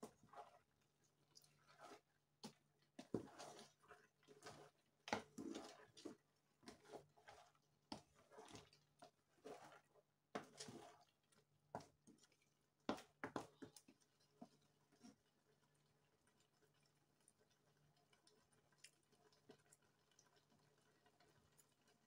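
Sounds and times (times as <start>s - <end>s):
wet squelching stirring: 0.0s - 22.0s.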